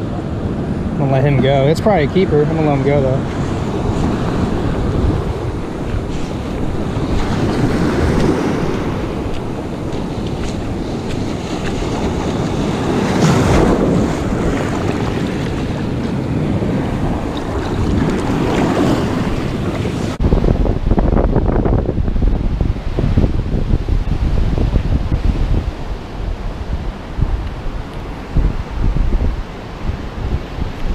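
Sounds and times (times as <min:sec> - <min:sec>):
ocean surf breaking: 0:00.0 - 0:30.9
wind buffeting microphone: 0:00.0 - 0:30.9.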